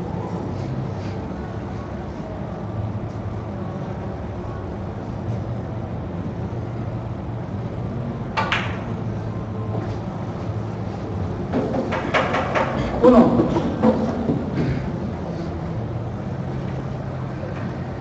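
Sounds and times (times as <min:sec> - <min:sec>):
low hum of hall: 0:00.0 - 0:18.0.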